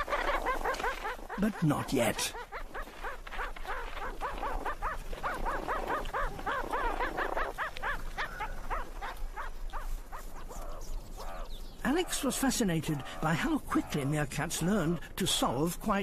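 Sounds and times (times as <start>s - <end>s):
meerkats chirping: 0.0s - 15.8s.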